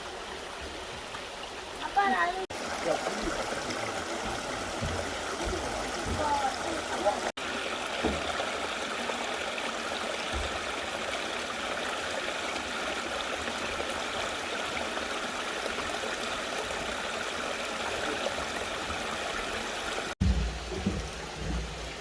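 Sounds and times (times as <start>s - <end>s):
stream water flowing over rocks: 0.0s - 22.0s.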